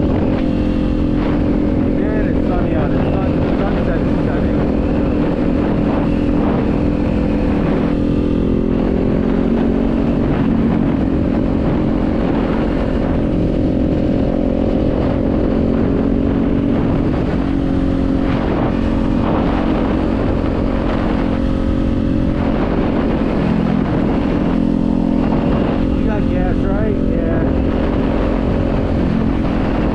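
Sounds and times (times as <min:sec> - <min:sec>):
motorcycle engine cruising: 0:00.0 - 0:29.9.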